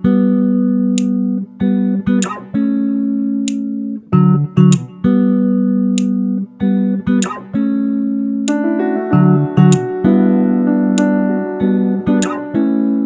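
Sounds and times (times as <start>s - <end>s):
held guitar-like chords: 0.0s - 13.0s.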